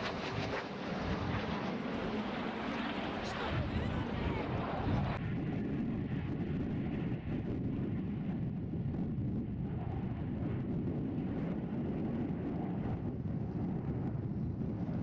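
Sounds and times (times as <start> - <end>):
aircraft engines rumbling: 0.0 - 15.0.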